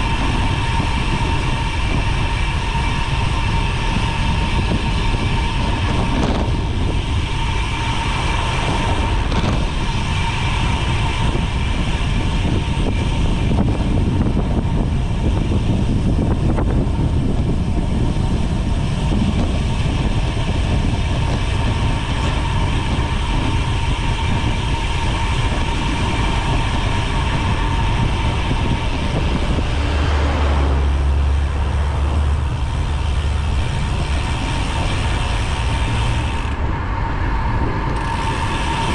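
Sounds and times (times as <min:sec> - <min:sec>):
bike tyres humming on road: 0:00.0 - 0:38.9
heavy low rumble: 0:00.0 - 0:38.9
wind rushing over microphone: 0:00.0 - 0:38.9.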